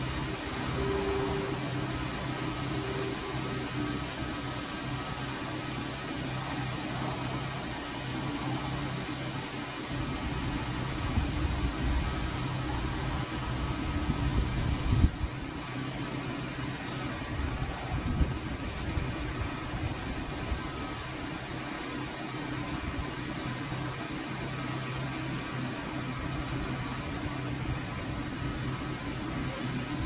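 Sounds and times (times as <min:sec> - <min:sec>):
motor humming: 0:00.0 - 0:30.0.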